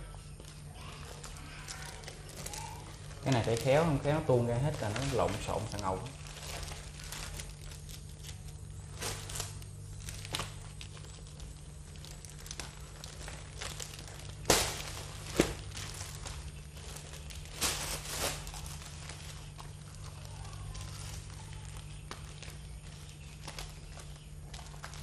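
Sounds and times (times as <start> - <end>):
foil balloons rustling and crinkling: 0.0 - 25.0.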